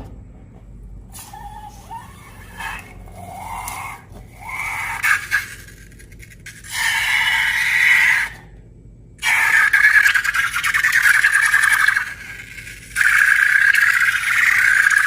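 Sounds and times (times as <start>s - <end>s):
slime and balloons squeaking: 1.2s - 8.4s, 9.2s - 15.0s.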